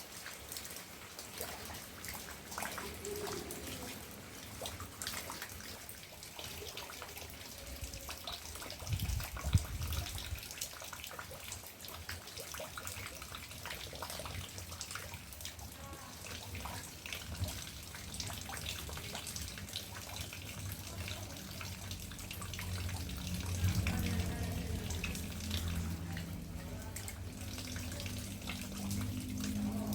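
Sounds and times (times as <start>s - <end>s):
rainwater dripping and trickling: 0.0s - 29.9s
running water: 0.0s - 29.9s.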